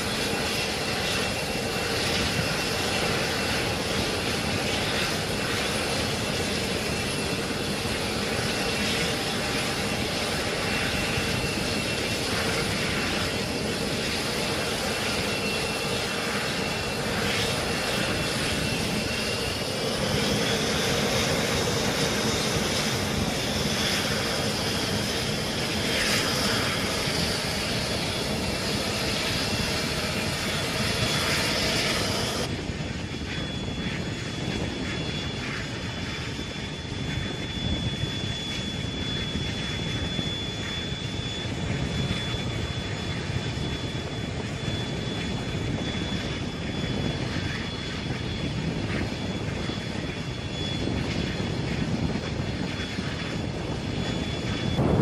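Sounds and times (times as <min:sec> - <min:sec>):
high-pitched whine: 0:00.0 - 0:55.0
jet engines running: 0:00.0 - 0:55.0.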